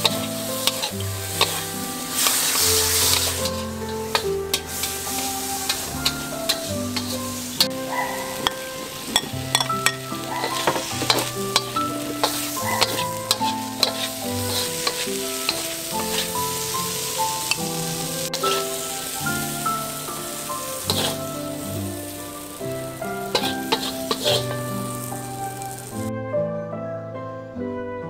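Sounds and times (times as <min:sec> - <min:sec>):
metal spatula scraping a wok: 0:00.0 - 0:26.0
food sizzling: 0:00.0 - 0:26.1
light background music: 0:00.0 - 0:28.0.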